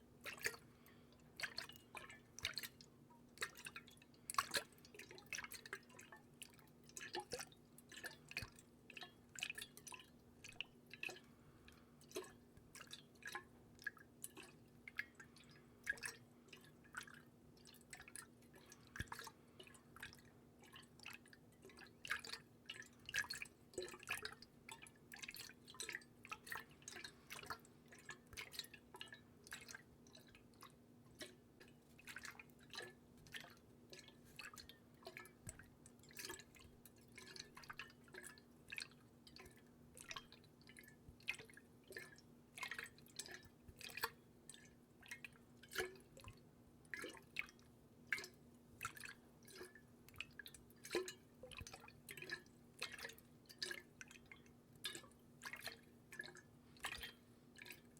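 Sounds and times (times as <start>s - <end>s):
faint steady hum: 0.0s - 57.9s
water dripping: 0.2s - 57.9s.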